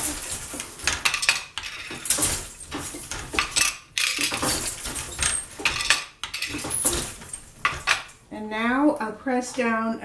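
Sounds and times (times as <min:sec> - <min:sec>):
wooden loom clacking: 0:00.0 - 0:08.2.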